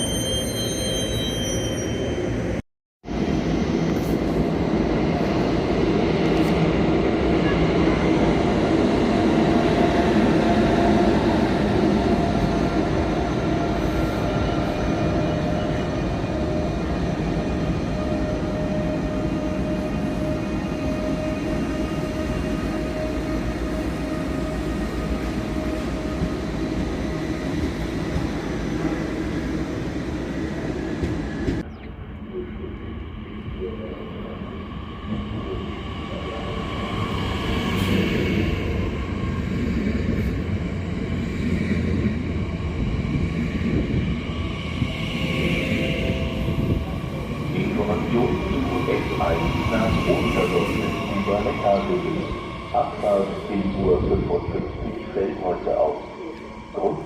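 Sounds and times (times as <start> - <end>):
train rumbling: 2.3 - 57.0
train whining tones: 9.2 - 57.0.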